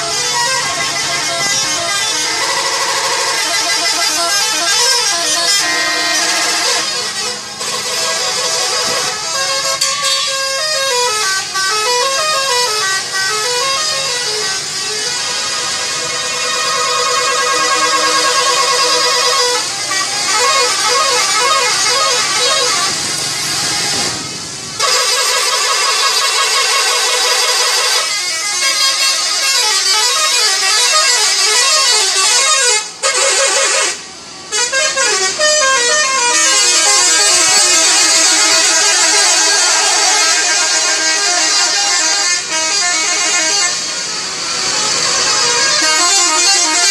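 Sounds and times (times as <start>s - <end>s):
bus musical horn tune: 0.0s - 46.9s.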